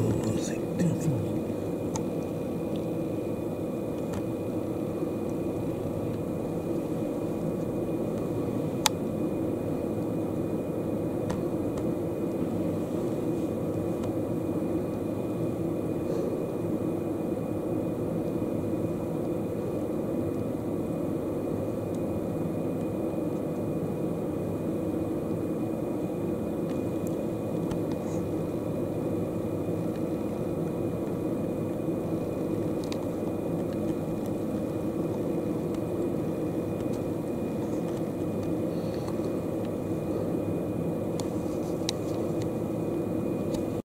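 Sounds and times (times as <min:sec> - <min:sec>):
low mechanical rumble and hum: 0:00.0 - 0:43.8.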